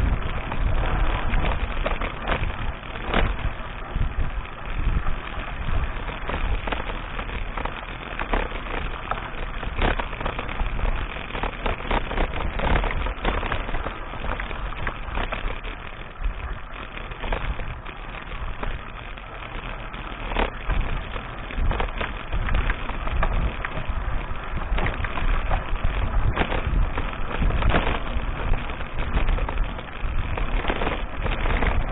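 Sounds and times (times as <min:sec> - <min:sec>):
bike clicks and rattles: 0:00.0 - 0:31.9
tyres on dirt track: 0:00.0 - 0:31.9
wind rumble: 0:00.0 - 0:31.9.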